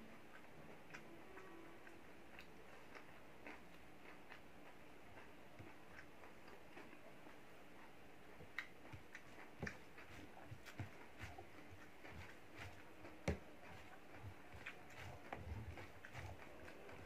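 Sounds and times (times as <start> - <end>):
person chewing: 0.2 - 17.0.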